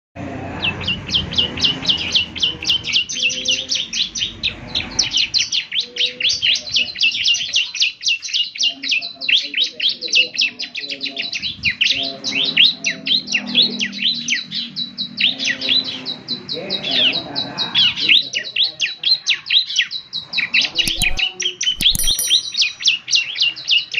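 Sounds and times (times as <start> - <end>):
bird chattering song: 0.6 - 23.9.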